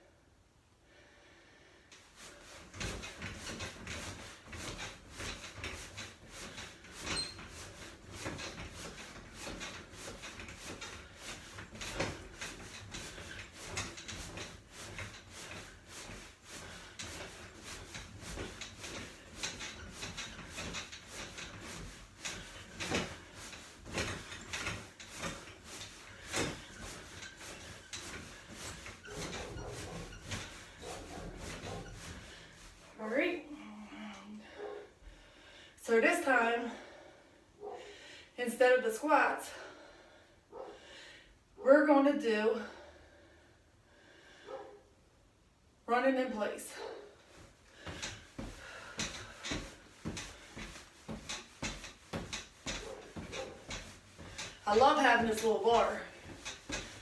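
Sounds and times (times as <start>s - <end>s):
exercise equipment creaks and rubs: 1.9s - 35.0s, 35.8s - 37.8s, 45.9s - 57.0s.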